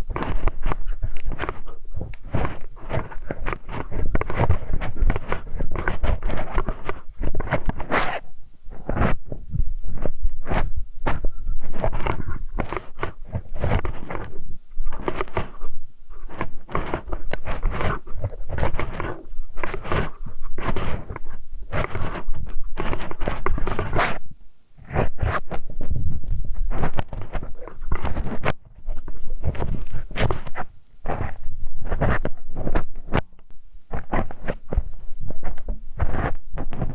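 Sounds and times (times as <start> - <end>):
hex wrench scraping microphone: 0.0 - 33.3, 33.9 - 36.9.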